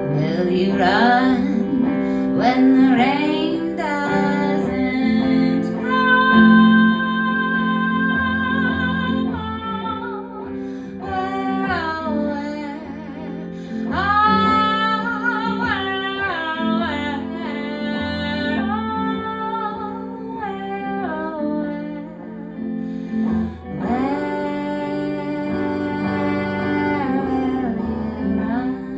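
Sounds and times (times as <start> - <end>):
acoustic guitar: 0.0 - 28.9
woman singing folk song: 0.0 - 28.9.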